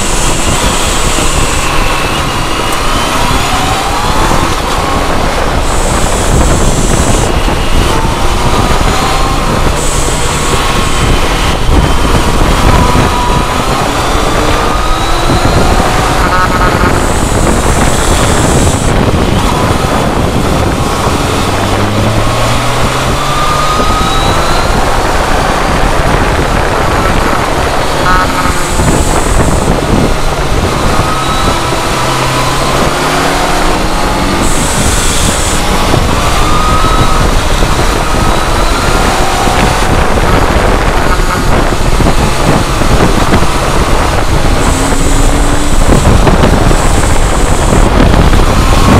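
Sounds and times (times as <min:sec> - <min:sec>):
motorcycle engine revving: 0:00.0 - 0:48.9
wind rushing on microphone: 0:00.0 - 0:48.9.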